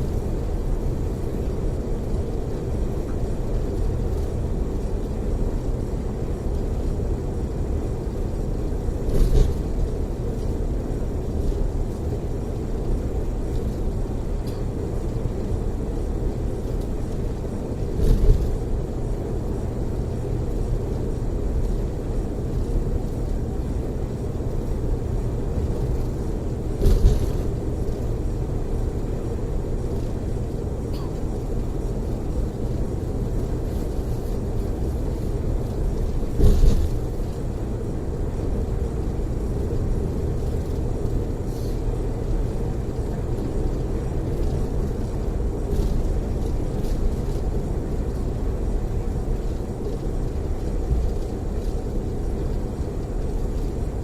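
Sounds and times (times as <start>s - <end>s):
coach engine and tyres rumbling: 0.0s - 54.0s.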